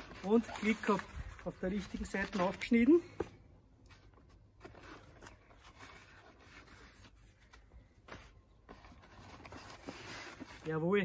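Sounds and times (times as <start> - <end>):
cardboard and paper rustling: 0.0 - 11.0.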